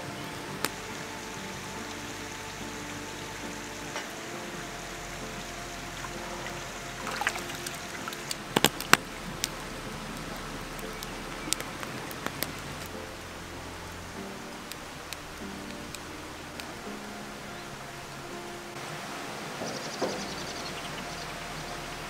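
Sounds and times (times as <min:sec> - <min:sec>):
watery rushing: 0:00.0 - 0:22.0
wood fire crackling and popping: 0:00.3 - 0:18.8.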